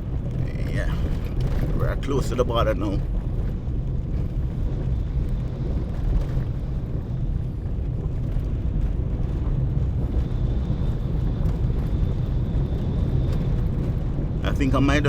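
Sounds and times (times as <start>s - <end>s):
car tyres and engine rumble: 0.0s - 15.0s.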